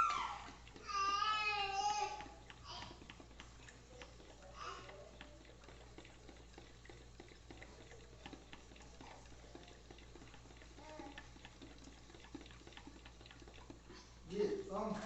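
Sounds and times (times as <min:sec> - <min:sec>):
utensil clicking in bowl: 0:00.0 - 0:13.9.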